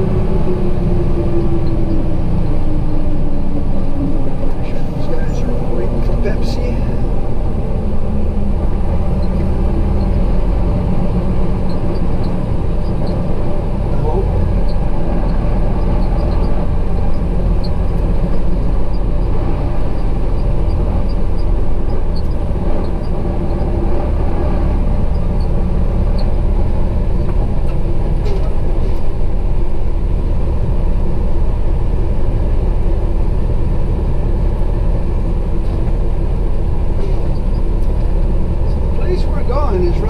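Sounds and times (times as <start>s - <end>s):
truck engine and road noise: 0.0s - 40.0s.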